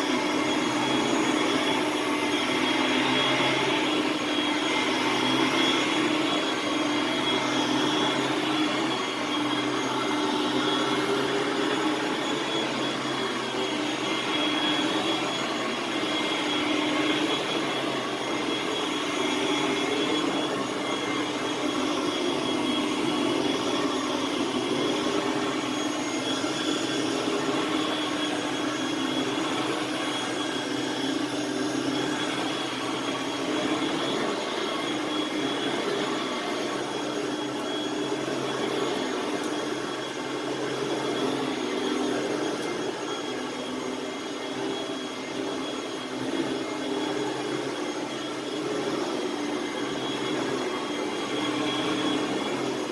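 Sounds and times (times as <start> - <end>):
vacuum cleaner running: 0.0 - 52.9.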